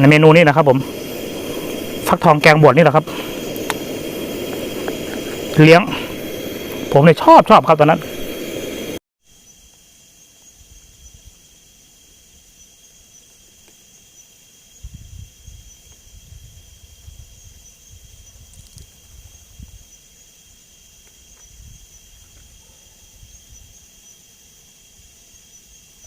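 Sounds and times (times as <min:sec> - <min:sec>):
night insects chirring: 0:00.0 - 0:26.0.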